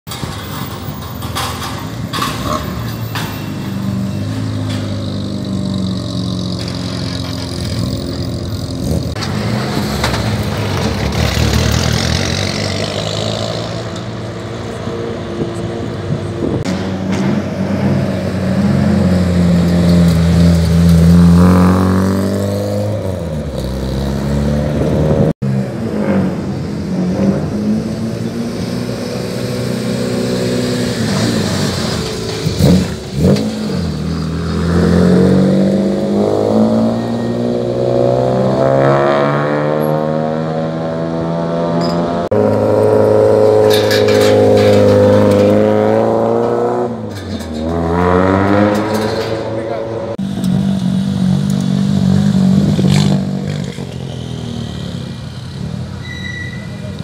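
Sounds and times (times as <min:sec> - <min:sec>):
rally car engines revving: 0:00.1 - 0:57.0.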